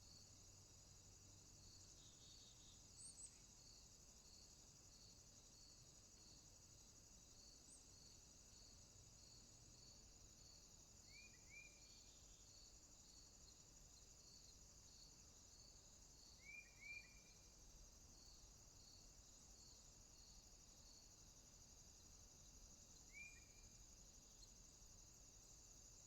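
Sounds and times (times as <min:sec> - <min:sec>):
soft insect chirp: 0:00.0 - 0:26.0
crickets trilling: 0:00.1 - 0:26.0.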